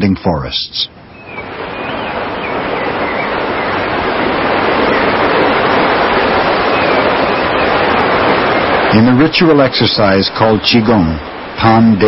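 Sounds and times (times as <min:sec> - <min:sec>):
waterfall rushing: 0:01.3 - 0:12.0.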